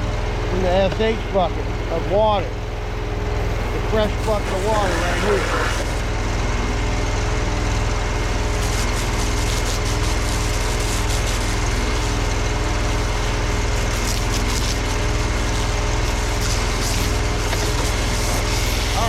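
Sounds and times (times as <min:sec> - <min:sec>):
pressure washer engine running: 0:00.0 - 0:19.0.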